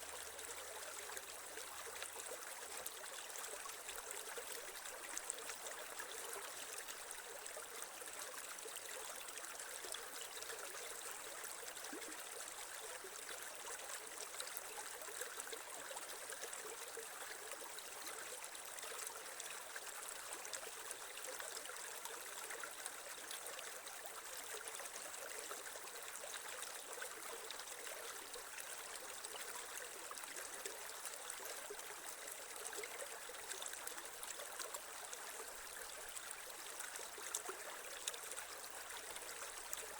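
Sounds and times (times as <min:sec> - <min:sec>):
creek trickling over stones: 0:00.0 - 0:39.9.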